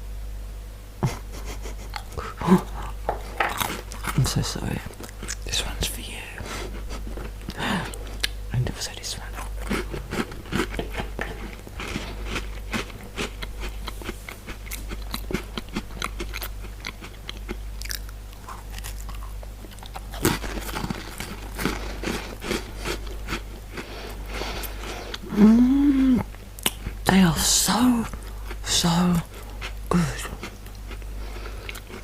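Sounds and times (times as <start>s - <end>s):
biscuits crunching being chewed: 1.0s - 32.0s.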